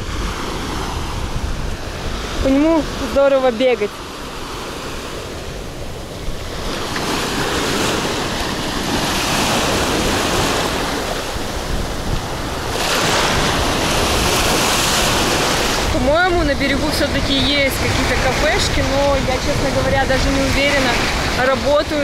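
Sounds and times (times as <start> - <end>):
surf washing on sandy shore: 0.0 - 22.0
wind buffeting microphone: 0.0 - 22.0.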